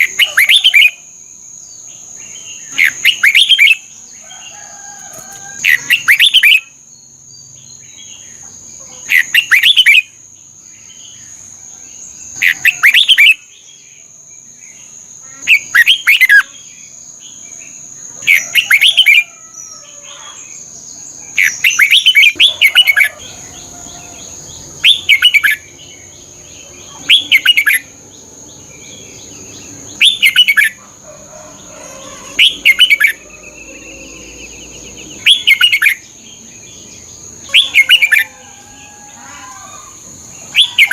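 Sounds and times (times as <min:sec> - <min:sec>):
bird singing warbled phrases: 0:00.0 - 0:40.9.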